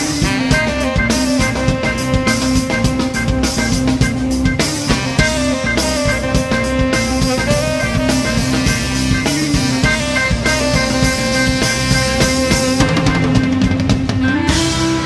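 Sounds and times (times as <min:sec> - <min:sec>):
drum kit beat: 0:00.0 - 0:15.0
funky instrumental music: 0:00.0 - 0:15.0.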